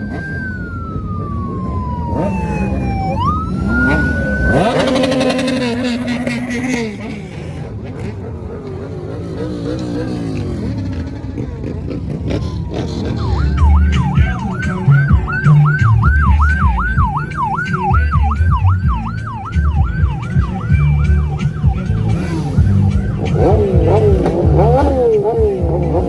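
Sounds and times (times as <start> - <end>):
motorbike engines: 0.0 - 26.0
yelping electronic siren: 0.0 - 26.0.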